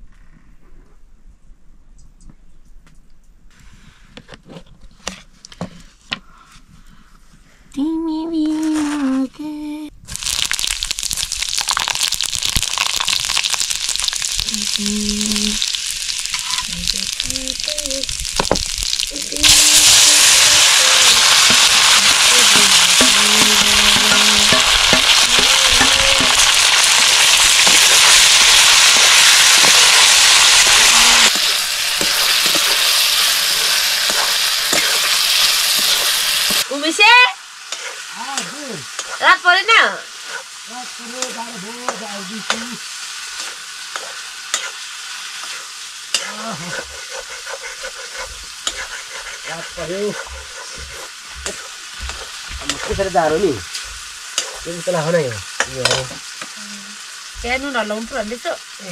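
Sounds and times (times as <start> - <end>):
food sizzling in hot oil: 10.0 - 58.9.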